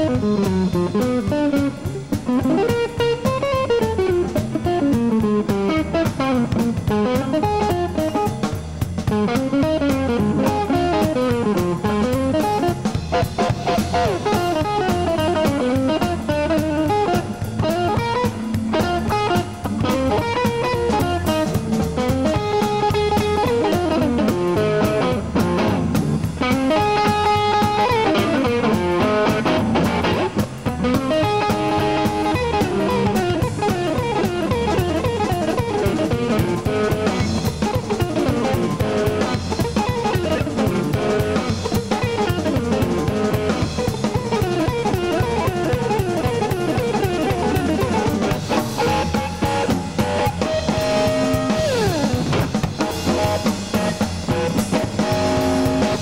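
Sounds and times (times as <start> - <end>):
drums: 0.0 - 56.0
electric guitar lead: 0.0 - 56.0.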